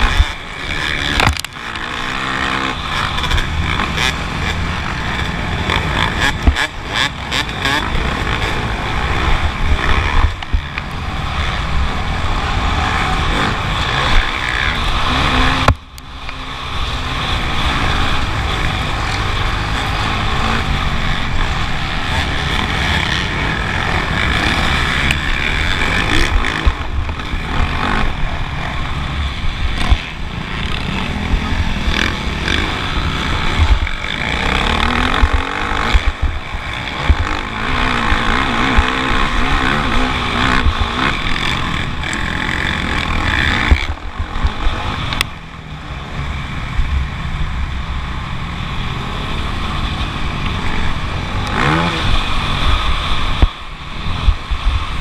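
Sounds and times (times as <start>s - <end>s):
motocross bike engine revving: 0.0s - 55.0s
wind rumble on microphone: 0.0s - 55.0s.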